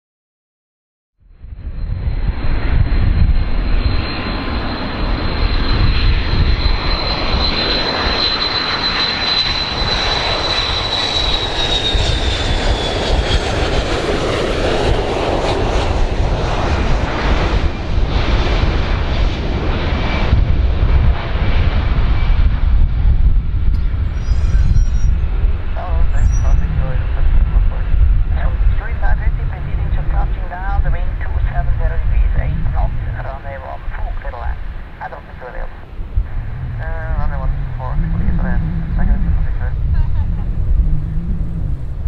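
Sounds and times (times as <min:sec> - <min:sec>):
jet engines rumbling and whining: 0:01.3 - 0:42.0.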